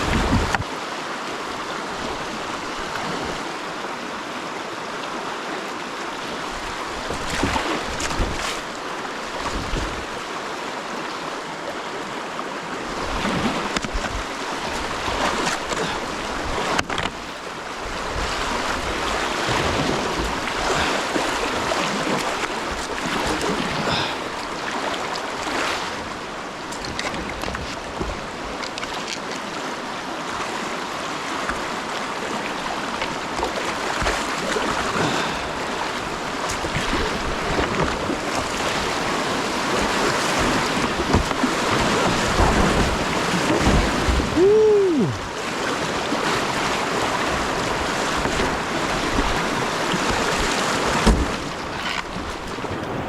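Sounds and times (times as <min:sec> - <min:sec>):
whitewater rushing: 0:00.0 - 0:53.0.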